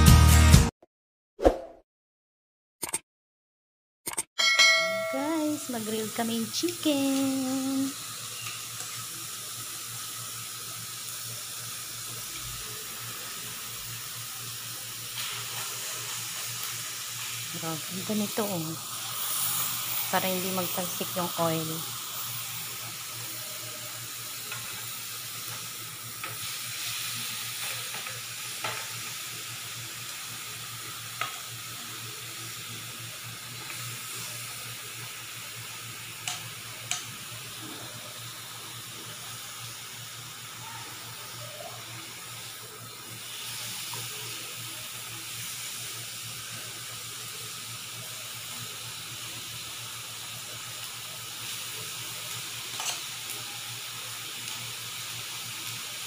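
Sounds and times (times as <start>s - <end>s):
chicken sizzling on a grill pan: 5.1s - 56.0s.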